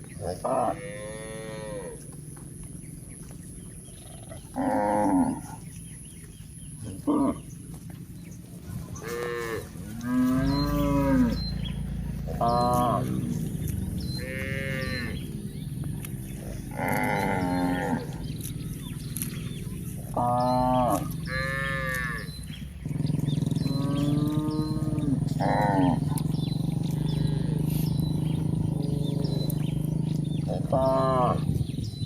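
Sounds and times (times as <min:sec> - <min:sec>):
cattle mooing: 0:00.2 - 0:02.0, 0:04.2 - 0:05.7, 0:08.9 - 0:31.6
low hum: 0:05.2 - 0:32.0.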